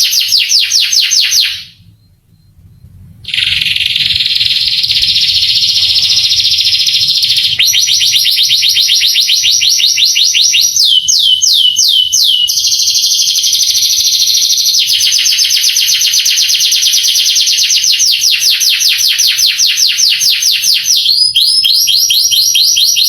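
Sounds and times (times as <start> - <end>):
canary singing in rapid trills: 0.0 - 23.0.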